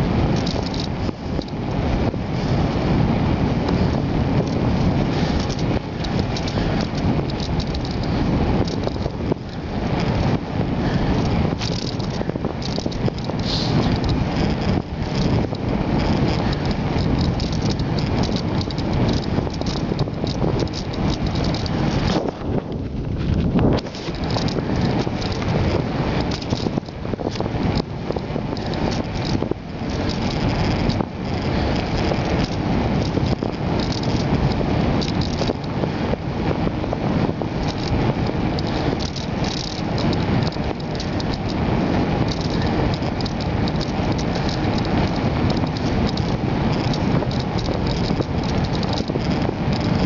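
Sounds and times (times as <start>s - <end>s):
bike and camera mount rattling: 0.0s - 50.0s
low rumble: 0.0s - 50.0s
wind noise on microphone: 0.0s - 50.0s.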